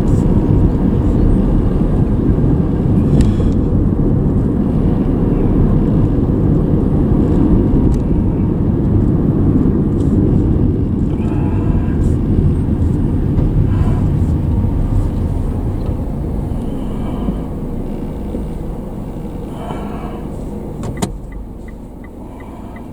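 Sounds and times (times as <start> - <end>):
car interior road rumble: 0.0 - 22.9.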